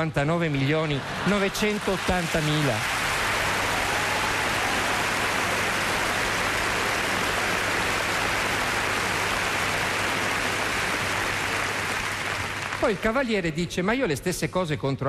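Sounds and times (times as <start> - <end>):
audience applauding: 0.8 - 13.4.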